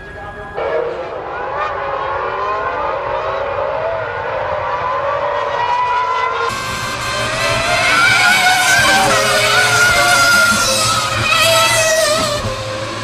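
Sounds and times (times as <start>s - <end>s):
racing car engines at speed: 0.0s - 13.0s.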